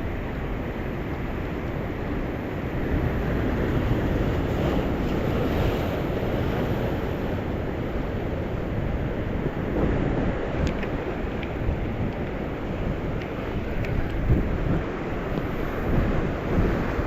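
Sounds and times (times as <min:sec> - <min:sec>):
rough sea surf: 0:00.0 - 0:17.0
wind buffeting microphone: 0:00.0 - 0:17.0.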